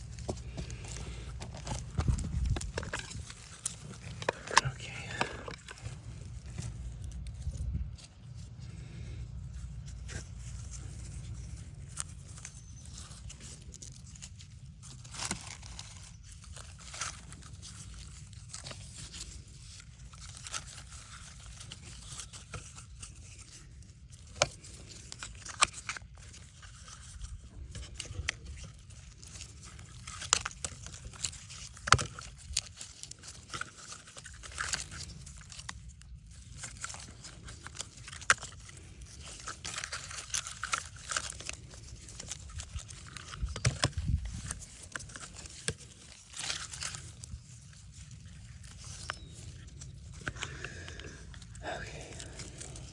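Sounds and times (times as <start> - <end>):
crinkling scraping and tearing: 0.0 - 52.9.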